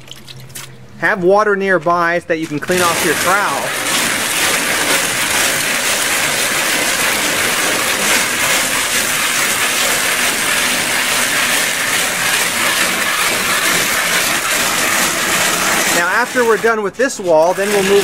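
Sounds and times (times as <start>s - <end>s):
trowel scraping wet stucco: 2.4s - 18.0s.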